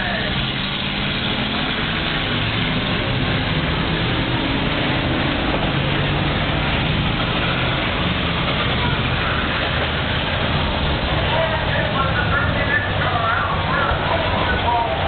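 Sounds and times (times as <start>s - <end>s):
dense rushing noise: 0.0s - 15.0s
race car engines: 0.0s - 15.0s.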